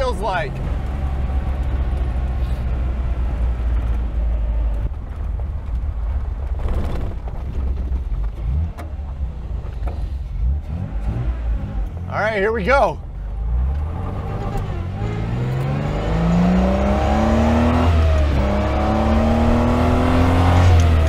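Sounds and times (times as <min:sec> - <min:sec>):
car engine running low rumble: 0:00.0 - 0:21.0.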